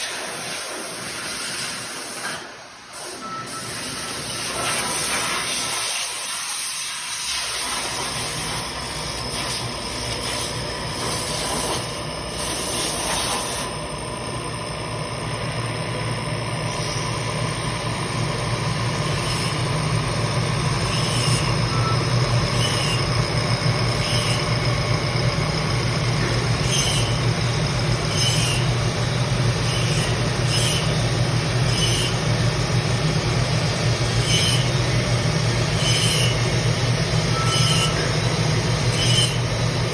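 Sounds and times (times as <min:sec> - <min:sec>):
milling machine hissing: 0:02.9 - 0:39.9.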